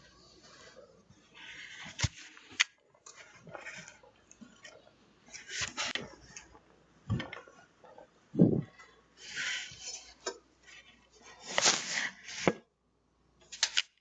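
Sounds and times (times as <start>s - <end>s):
rustling and handling noises: 0.0s - 12.7s.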